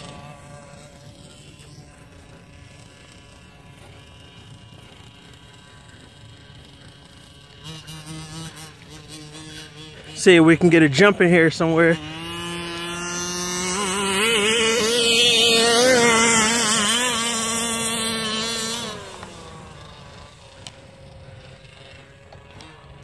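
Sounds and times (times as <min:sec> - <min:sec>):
faint engine hum: 0:00.0 - 0:23.0
model truck engine revving: 0:00.0 - 0:23.0.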